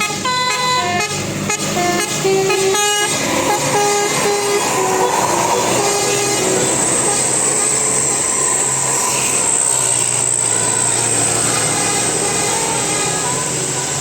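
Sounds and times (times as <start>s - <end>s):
bus engine passing: 0.0s - 14.0s
musical bus air horn: 0.0s - 14.0s
high whine: 2.4s - 14.0s.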